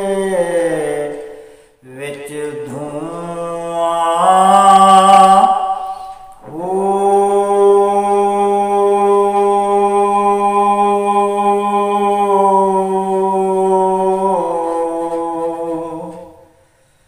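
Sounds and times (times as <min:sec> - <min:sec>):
man singing a long note: 0:00.0 - 0:16.5.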